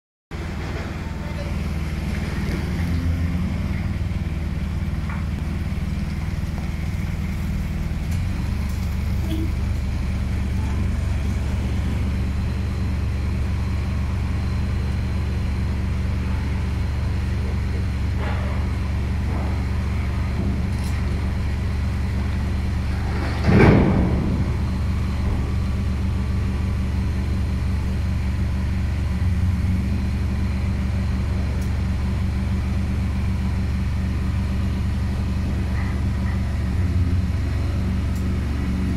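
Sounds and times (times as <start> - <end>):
boom lift power unit humming: 0.3 - 38.9.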